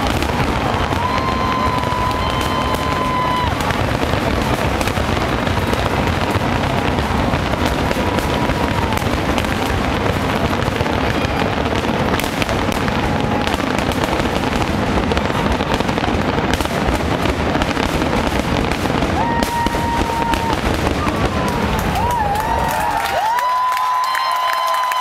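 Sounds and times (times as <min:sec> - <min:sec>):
fireworks crackling: 0:00.0 - 0:24.8.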